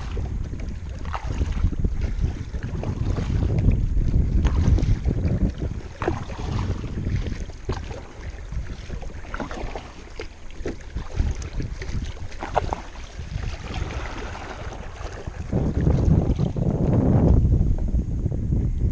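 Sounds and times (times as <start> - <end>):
paddle strokes splashing: 0.0 - 16.9
wind buffeting microphone: 0.0 - 18.9.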